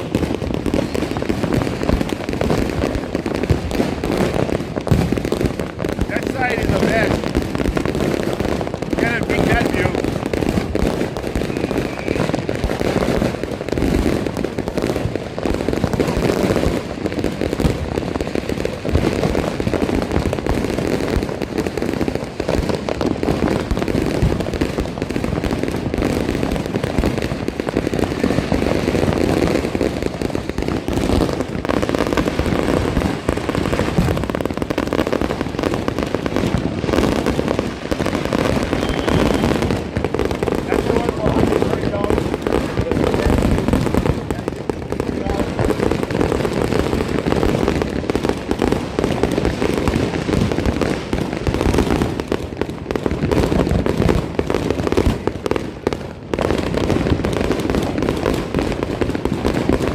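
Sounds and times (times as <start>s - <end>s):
firecrackers crackling and popping: 0.0s - 59.9s.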